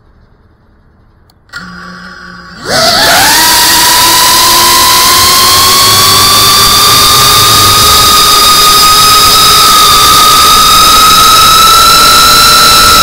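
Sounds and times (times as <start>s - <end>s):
drone motors whining: 1.5s - 13.0s.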